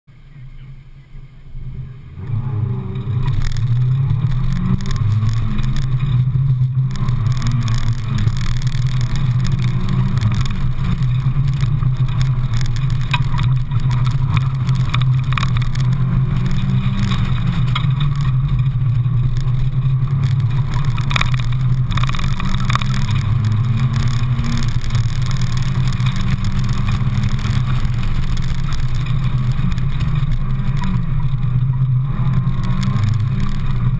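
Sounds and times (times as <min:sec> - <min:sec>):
car engine revving: 0:00.1 - 0:33.9
wind noise: 0:01.6 - 0:33.9.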